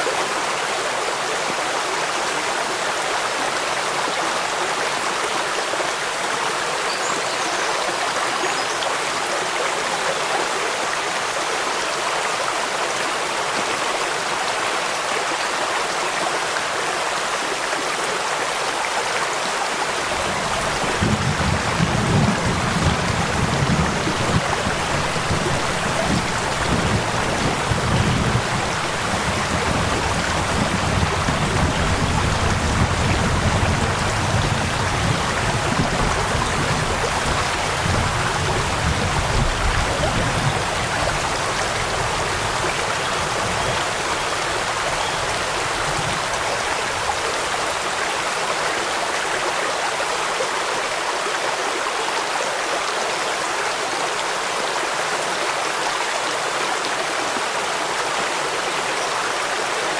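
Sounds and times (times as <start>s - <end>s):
flowing water: 0.0s - 59.9s
rainfall: 0.0s - 59.9s.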